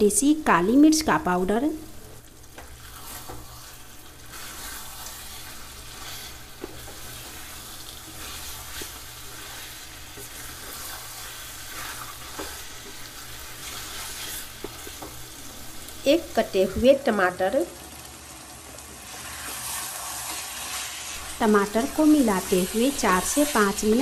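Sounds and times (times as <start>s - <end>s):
meat sizzling in oil: 0.0s - 24.0s.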